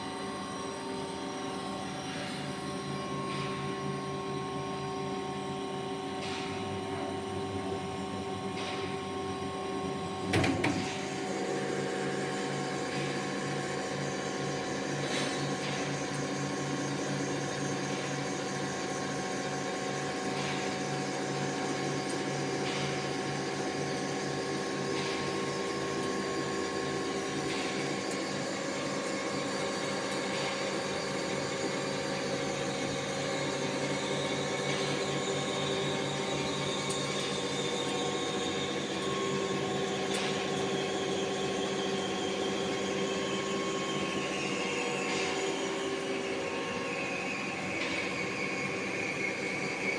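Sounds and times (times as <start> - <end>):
high machine whine: 0.0 - 49.9
lathe mechanical hum: 0.0 - 49.9.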